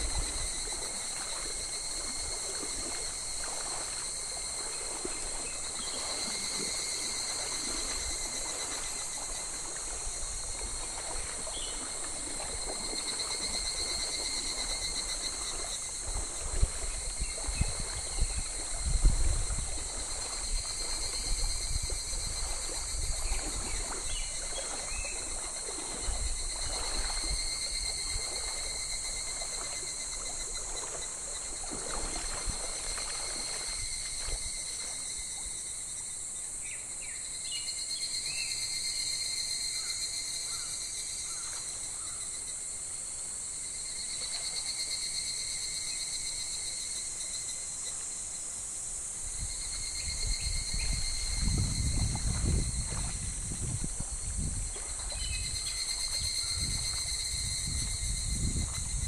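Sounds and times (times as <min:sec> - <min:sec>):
cicadas shrilling: 0:00.0 - 0:42.8, 0:43.4 - 0:59.0
stream babbling and splashing: 0:00.0 - 0:59.0.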